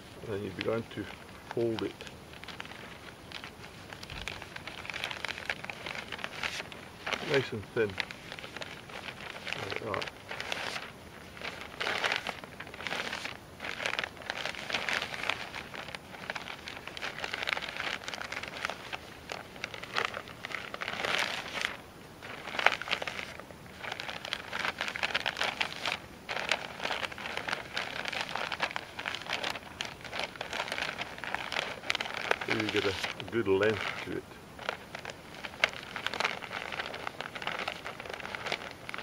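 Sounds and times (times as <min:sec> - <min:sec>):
newspaper rustling and crinkling: 0:00.0 - 0:39.0.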